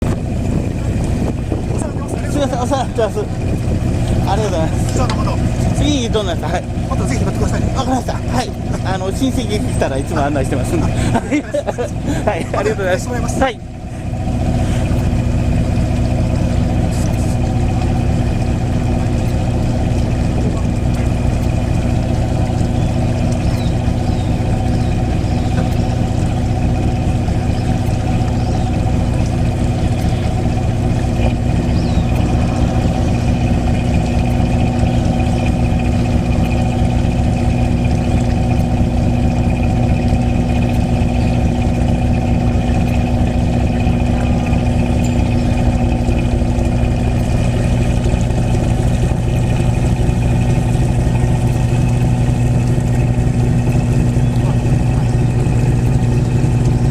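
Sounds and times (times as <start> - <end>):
boat engine humming: 0.0 - 56.9.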